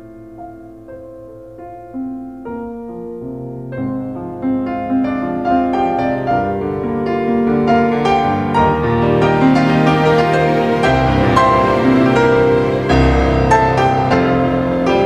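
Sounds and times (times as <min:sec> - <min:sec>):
instrumental music with held notes: 0:00.0 - 0:15.0.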